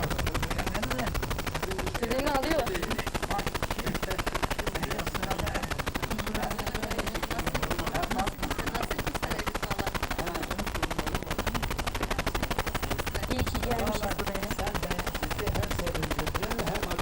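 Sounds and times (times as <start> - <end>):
faint voices: 0.0 - 17.0
rapid crackling stutter: 0.0 - 17.0.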